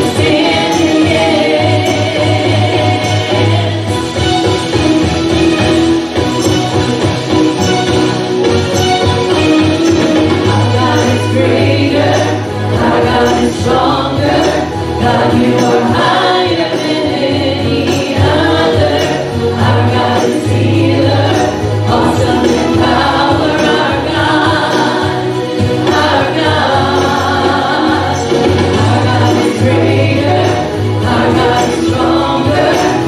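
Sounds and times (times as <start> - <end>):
congregation singing: 0.0 - 33.0
tambourine jingle: 0.0 - 33.0
worship band playing: 0.0 - 33.0.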